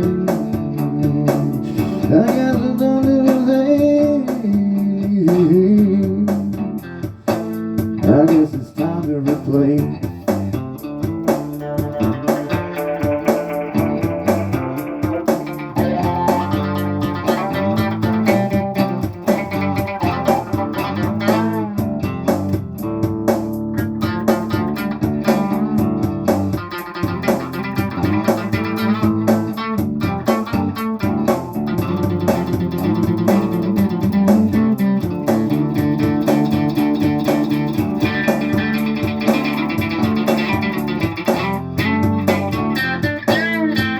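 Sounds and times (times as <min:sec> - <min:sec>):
blues-rock guitars and bass: 0:00.0 - 0:43.9.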